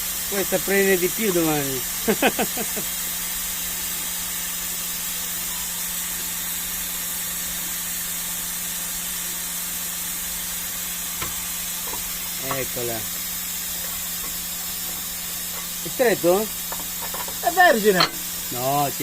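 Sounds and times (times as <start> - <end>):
steady hum with hiss: 0.0 - 19.0.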